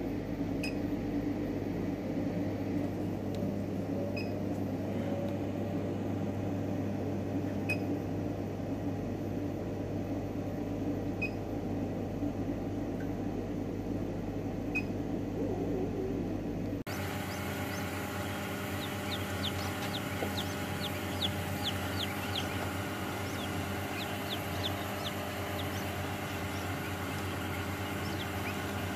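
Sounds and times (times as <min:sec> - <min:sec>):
steady electric hum: 0:00.0 - 0:28.9.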